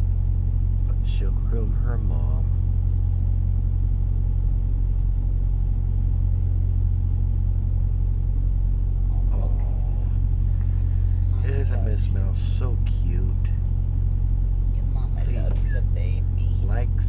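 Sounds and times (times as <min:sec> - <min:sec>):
engine rumble inside vehicle cab: 0:00.0 - 0:17.0.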